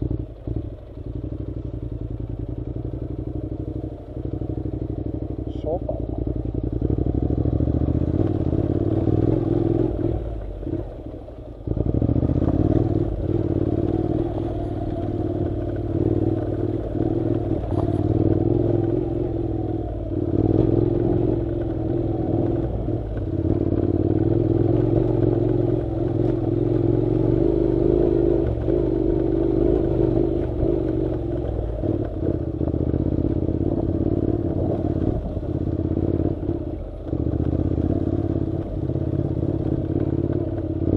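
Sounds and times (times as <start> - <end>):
motorcycle engine running: 0.0 - 40.9
rattling over rough road: 0.0 - 40.9.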